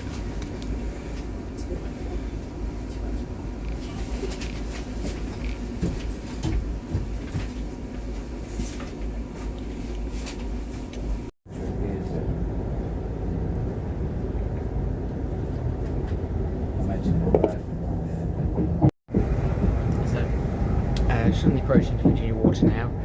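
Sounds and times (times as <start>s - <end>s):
train interior rumble: 0.0s - 23.0s.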